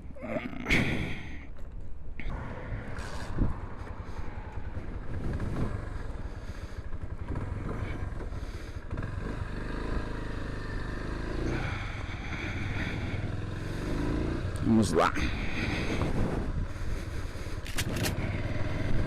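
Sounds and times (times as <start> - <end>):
motorcycle engine running: 2.2 - 19.0.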